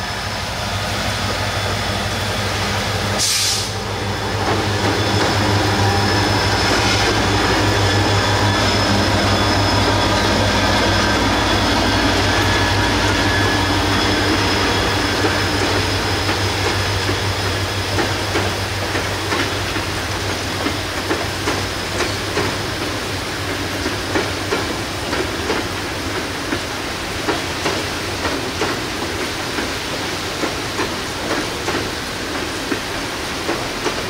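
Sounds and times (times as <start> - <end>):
train rushing noise: 0.0 - 34.0
train wheels knocking on rail joints: 4.2 - 34.0.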